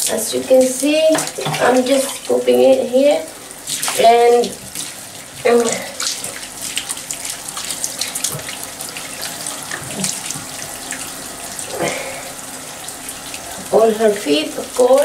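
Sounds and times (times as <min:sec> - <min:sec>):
water pouring and splashing in tub: 0:00.0 - 0:15.0.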